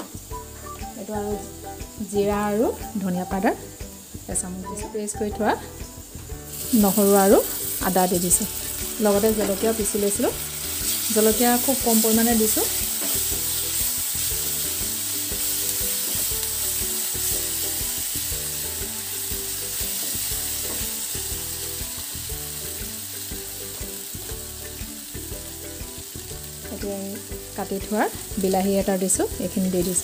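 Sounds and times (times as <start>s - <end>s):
masala sizzling in hot oil: 0.0s - 30.0s.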